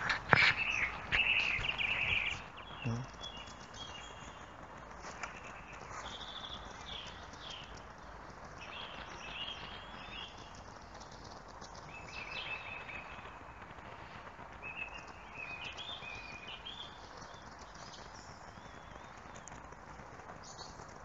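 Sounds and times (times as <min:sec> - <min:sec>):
songbirds chirping and trilling: 0:00.0 - 0:19.6
steady outdoor hiss: 0:00.0 - 0:21.0.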